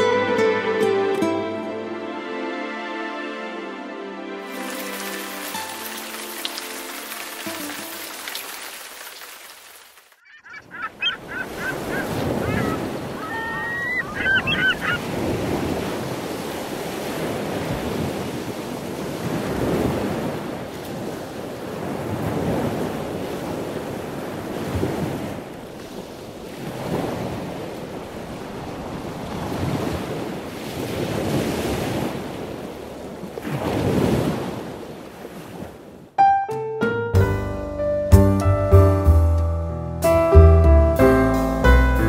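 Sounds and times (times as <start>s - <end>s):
ocean waves breaking: 0.9s - 36.2s.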